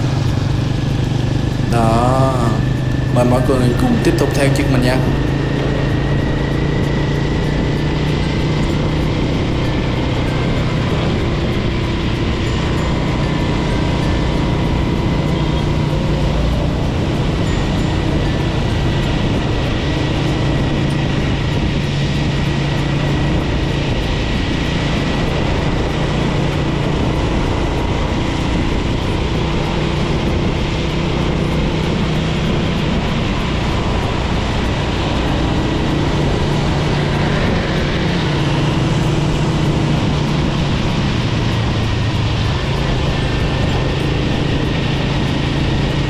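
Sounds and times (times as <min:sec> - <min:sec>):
motorbike engine drone: 0:00.0 - 0:46.0
road and wind noise: 0:00.0 - 0:46.0.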